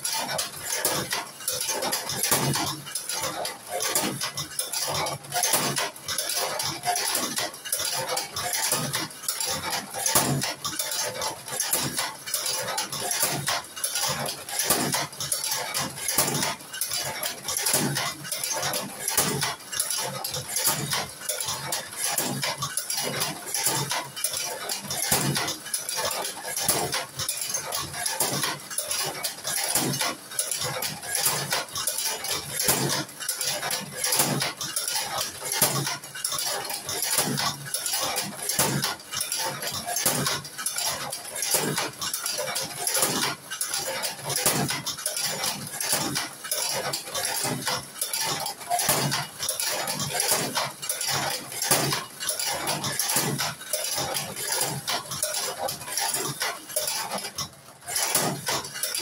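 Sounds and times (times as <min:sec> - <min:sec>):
cigarette rolling machine clacking: 0:00.0 - 0:59.0.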